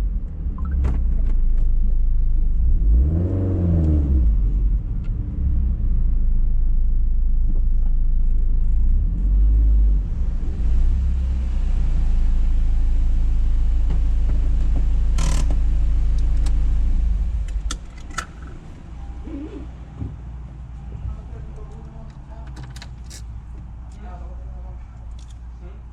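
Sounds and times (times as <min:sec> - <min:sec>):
deep exhaust drone: 0:00.0 - 0:22.4.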